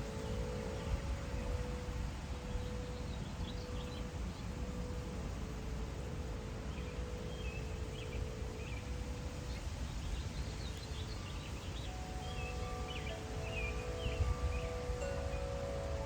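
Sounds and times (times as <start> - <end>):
birds chirping: 0.0 - 16.0
low wind rumble: 0.0 - 16.0
wind chimes ringing: 0.0 - 16.0.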